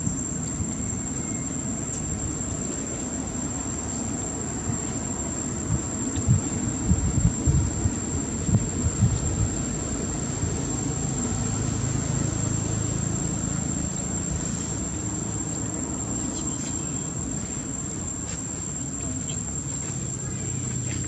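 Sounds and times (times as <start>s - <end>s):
high-pitched insect drone: 0.0s - 21.0s
low steady rumble: 0.0s - 21.0s.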